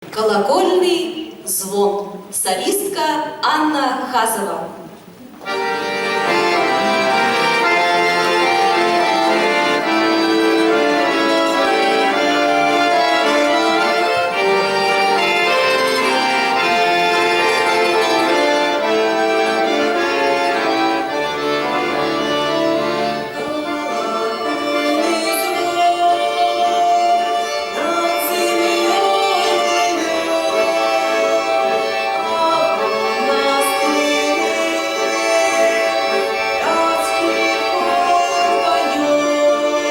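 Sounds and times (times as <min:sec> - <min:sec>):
accordion playing chords and melody: 0:05.1 - 0:39.9.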